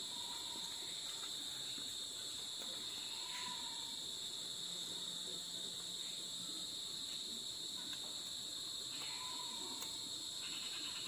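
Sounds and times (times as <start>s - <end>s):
chorus of night insects: 0.0s - 11.0s.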